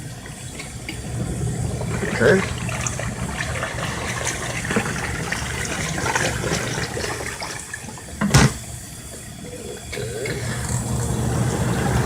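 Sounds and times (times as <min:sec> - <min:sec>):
washing machine motor hum: 0:00.0 - 0:12.0
water sloshing and draining: 0:00.2 - 0:12.0.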